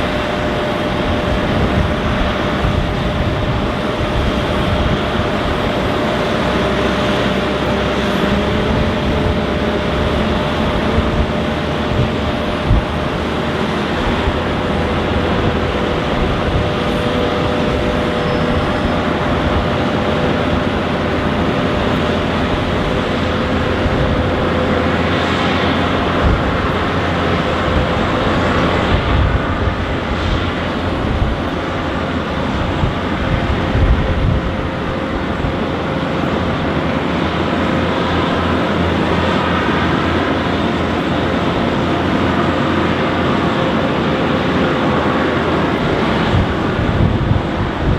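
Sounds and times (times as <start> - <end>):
jet engine whine: 0.0 - 47.9
jet engines rushing: 0.0 - 47.9.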